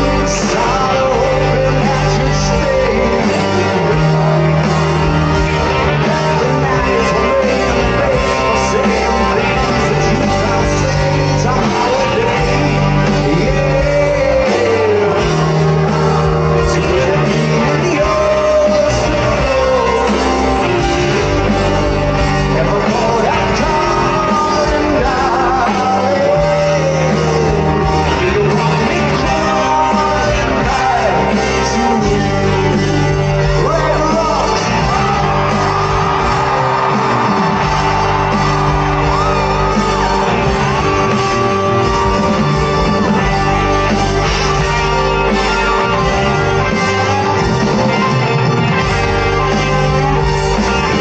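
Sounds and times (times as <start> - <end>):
bass notes: 0.0 - 51.0
guitar: 0.0 - 51.0
live rock band: 0.0 - 51.0
person singing: 0.0 - 51.0.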